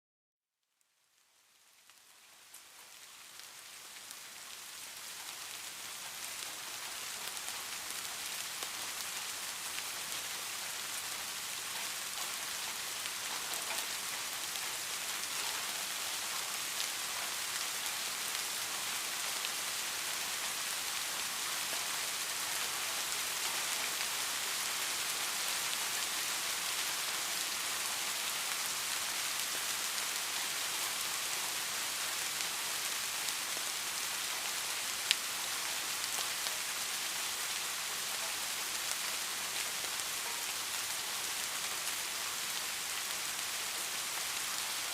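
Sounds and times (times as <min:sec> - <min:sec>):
soft rain falling: 0:00.6 - 0:44.9.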